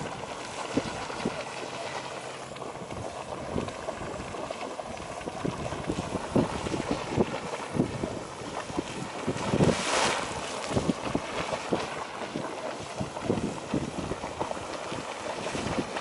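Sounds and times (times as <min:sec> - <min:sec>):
geyser water splashing and surging: 0:00.0 - 0:16.0.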